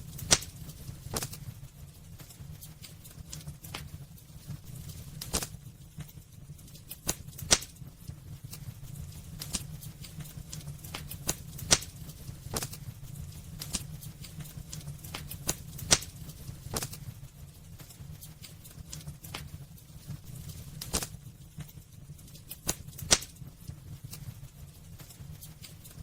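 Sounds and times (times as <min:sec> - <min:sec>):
fire crackling and popping: 0:00.0 - 0:26.0
low fire rumble: 0:00.0 - 0:26.0.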